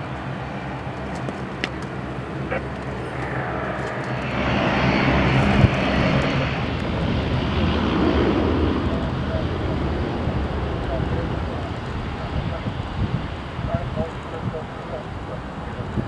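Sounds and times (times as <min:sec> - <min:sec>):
high fan whine: 0:00.0 - 0:16.0
jet engine noise: 0:00.0 - 0:16.0.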